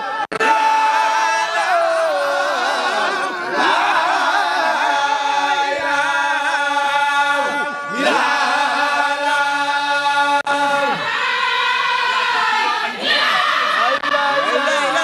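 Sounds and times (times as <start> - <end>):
men chanting in unison: 0.3 - 15.0.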